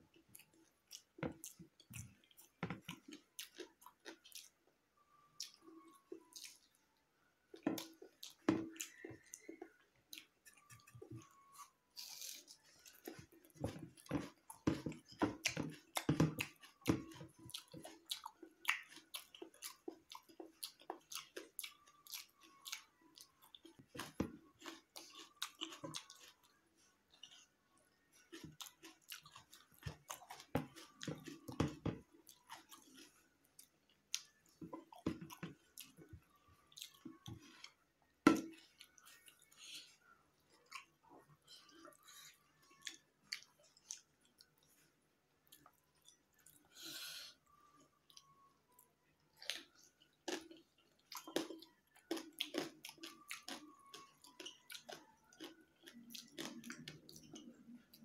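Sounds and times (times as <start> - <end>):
man chewing with wet mouth sounds: 0.1 - 6.9, 7.5 - 58.0.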